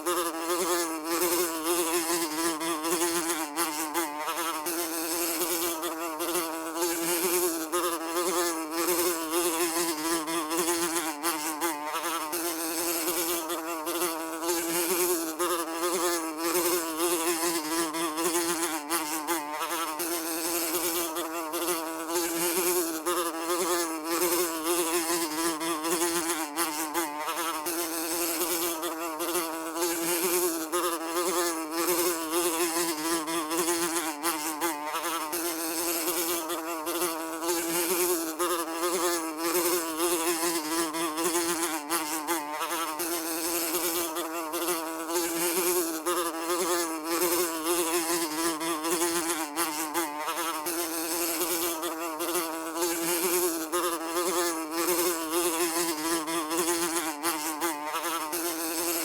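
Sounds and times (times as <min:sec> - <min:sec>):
housefly buzzing: 0:00.0 - 0:59.0.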